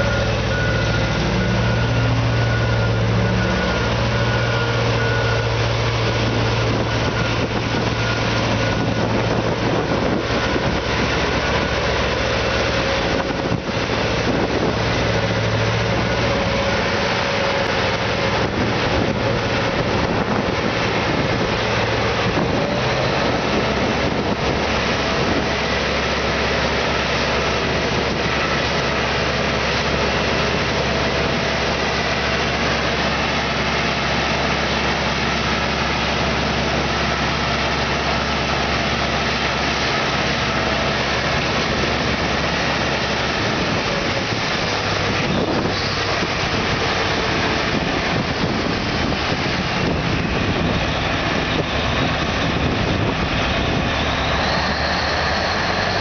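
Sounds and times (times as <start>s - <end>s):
truck diesel engine running: 0.0s - 56.0s
tyres on gravel road: 0.0s - 56.0s
constant low hum: 5.0s - 56.0s.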